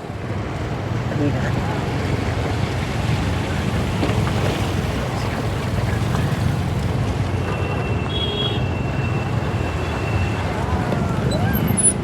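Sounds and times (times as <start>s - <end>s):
scooter engine and road noise: 0.0s - 12.0s.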